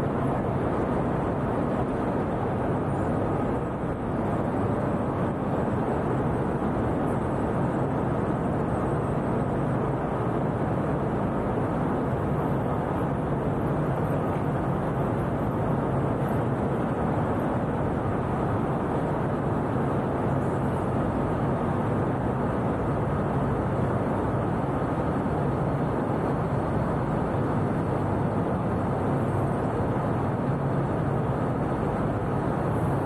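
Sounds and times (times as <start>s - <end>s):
city engine rumble: 0.0s - 33.0s.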